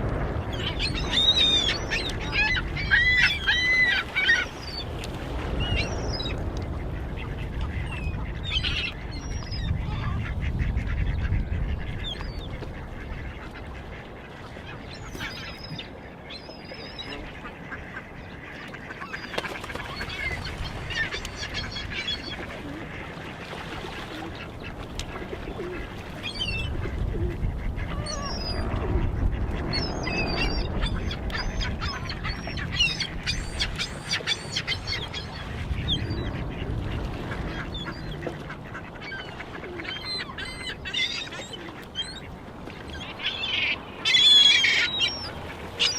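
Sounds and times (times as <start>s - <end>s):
waterbirds calling: 0.0s - 45.9s.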